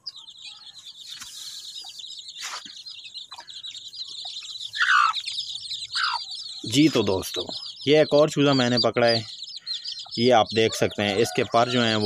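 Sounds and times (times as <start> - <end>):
chicks peeping: 0.0 - 12.0
hen calling: 0.0 - 12.0.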